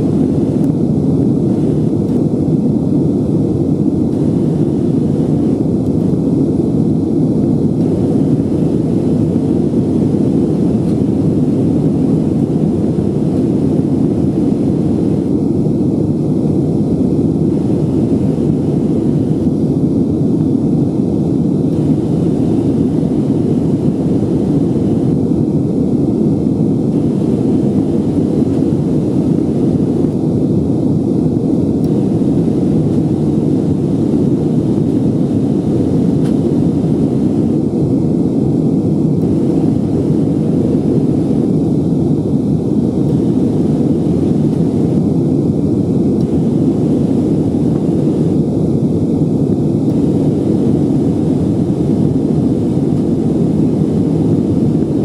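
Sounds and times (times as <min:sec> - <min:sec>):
jet engines in aircraft cabin: 0:00.0 - 0:55.0
rushing airflow: 0:00.0 - 0:55.0.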